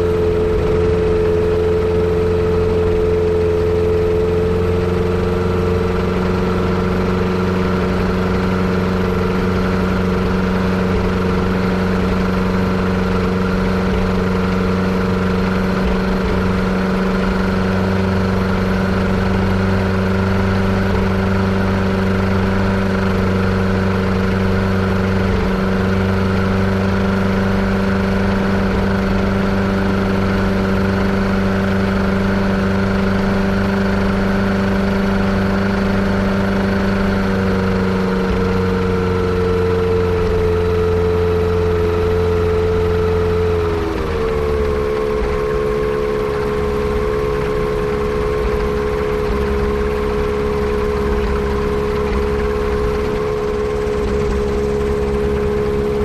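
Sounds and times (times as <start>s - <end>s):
airplane engine running: 0.0s - 56.0s.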